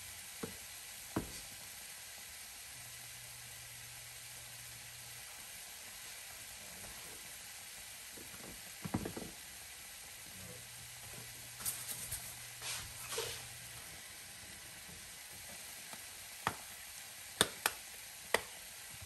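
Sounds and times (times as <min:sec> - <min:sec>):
meat and onions sizzling in pan: 0:00.0 - 0:19.0.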